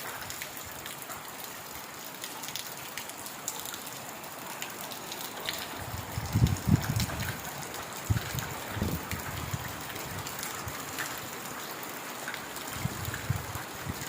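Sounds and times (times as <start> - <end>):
heavy rain on foliage: 0.0 - 14.0.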